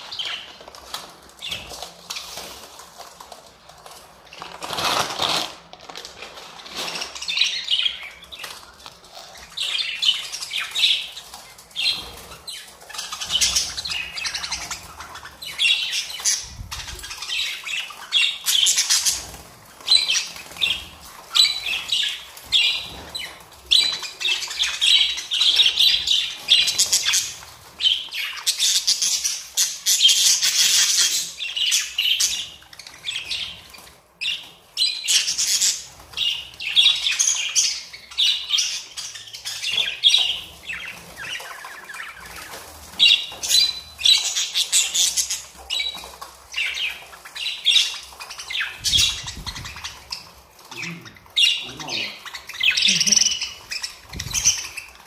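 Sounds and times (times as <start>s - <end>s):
budgerigars chirping and screeching: 0.0s - 2.8s, 6.6s - 55.0s.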